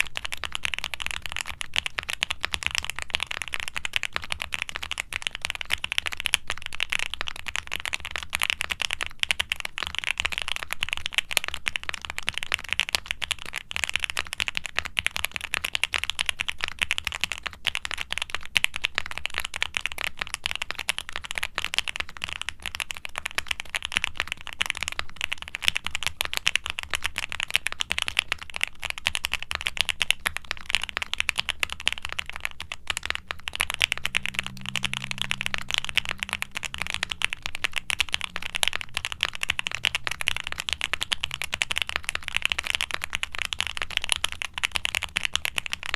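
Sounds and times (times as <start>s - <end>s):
mechanical keyboard typing: 0.0s - 45.9s.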